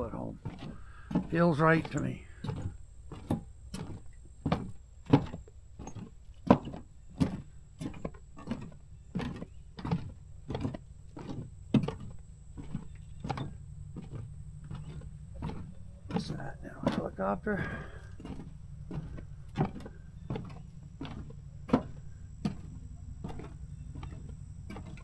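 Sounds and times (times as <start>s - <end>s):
footsteps on wooden boardwalk: 0.0s - 25.0s.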